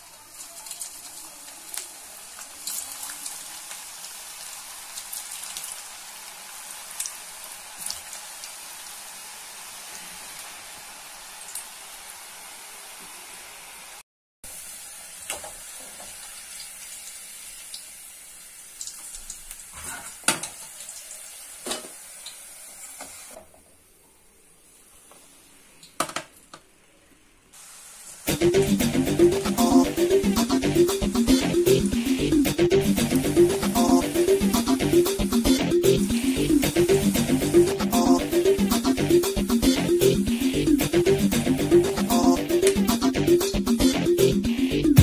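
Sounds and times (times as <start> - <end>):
potatoes sizzling in hot oil: 0.0 - 23.4, 27.6 - 40.9.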